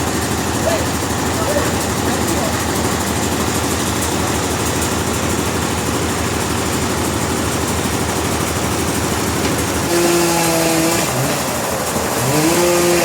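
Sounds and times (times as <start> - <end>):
sawmill engine idling: 0.0 - 13.0.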